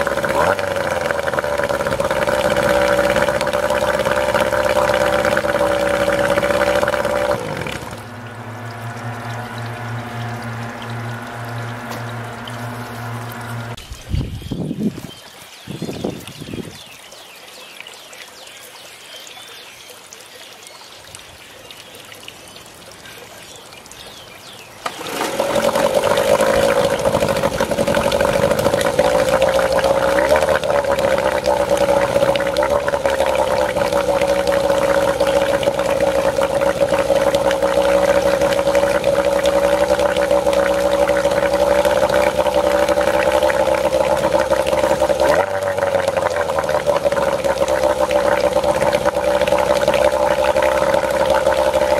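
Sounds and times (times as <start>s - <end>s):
outboard motor idling: 0.0s - 14.5s, 24.1s - 51.9s
propeller splashing water: 0.0s - 17.1s, 21.8s - 51.9s.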